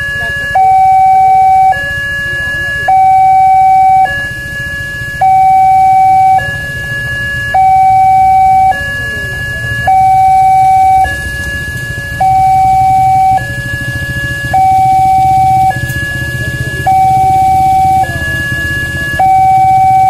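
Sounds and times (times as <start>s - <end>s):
two-tone level crossing alarm: 0.0s - 20.0s.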